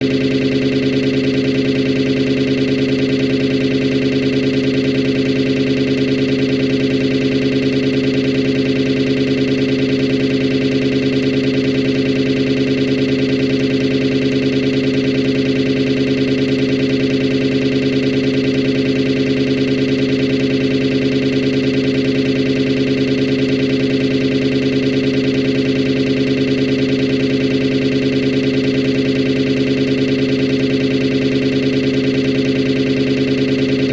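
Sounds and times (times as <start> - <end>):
synthesized sawtooth chord with flanger: 0.0 - 33.9.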